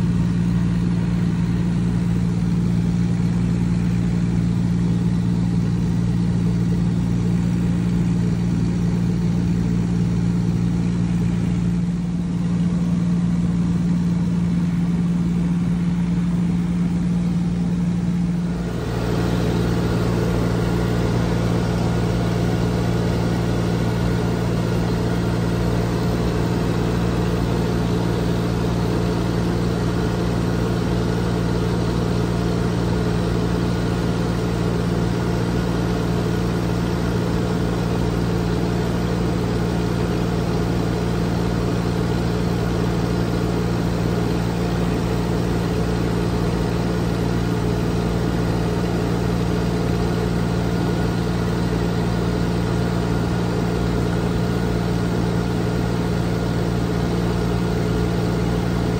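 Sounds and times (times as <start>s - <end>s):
aircraft engine and propeller drone: 0.0s - 58.9s.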